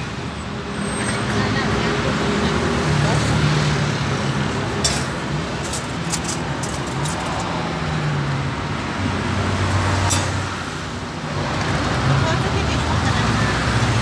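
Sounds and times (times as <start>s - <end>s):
steady road noise: 0.0s - 14.0s
vehicle engines humming: 0.0s - 14.0s.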